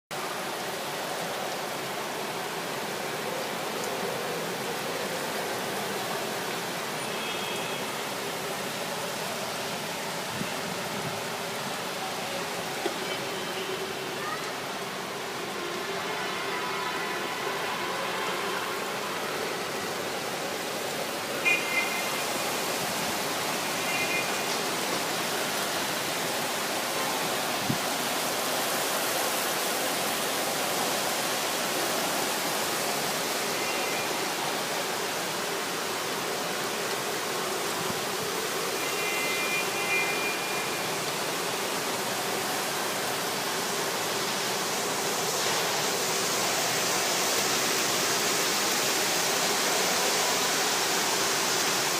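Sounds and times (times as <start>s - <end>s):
heavy rain pouring: 0.1s - 51.9s.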